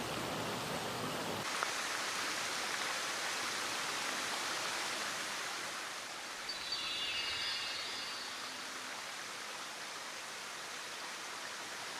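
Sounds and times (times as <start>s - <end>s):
mountain stream rushing: 0.0s - 11.9s.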